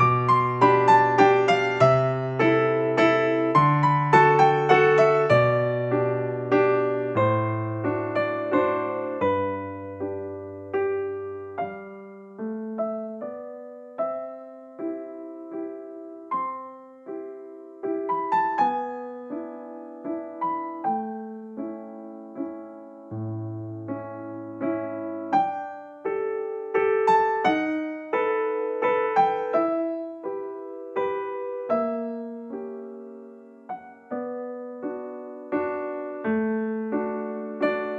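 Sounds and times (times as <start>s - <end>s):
slow piano piece: 0.0s - 37.9s.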